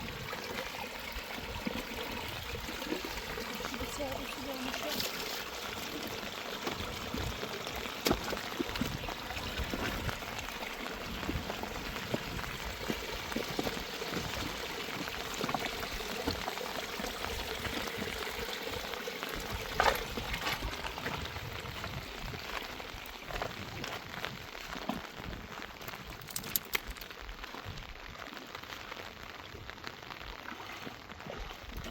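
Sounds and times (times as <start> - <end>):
water running and splashing: 0.0 - 31.9.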